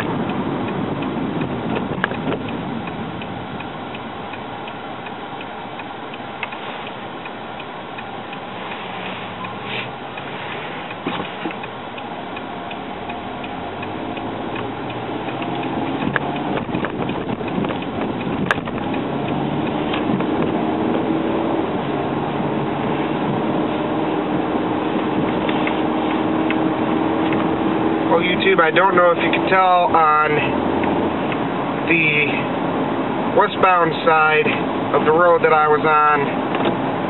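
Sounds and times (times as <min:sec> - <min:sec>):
car engine: 0:00.0 - 0:37.0
road noise: 0:00.0 - 0:37.0
turn signal ticking: 0:00.0 - 0:37.0.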